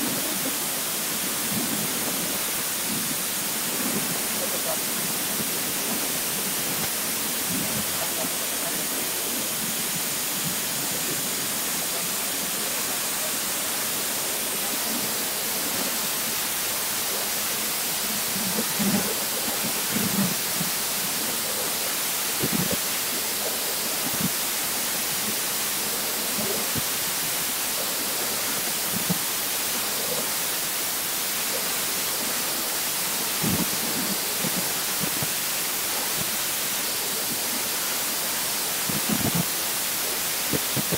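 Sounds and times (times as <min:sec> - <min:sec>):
water jet hissing: 0:00.0 - 0:40.9.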